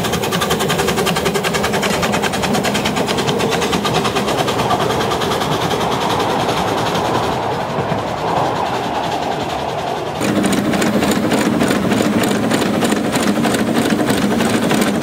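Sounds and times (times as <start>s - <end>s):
miniature train carriages clattering on rails: 0.0s - 8.6s, 10.2s - 15.0s.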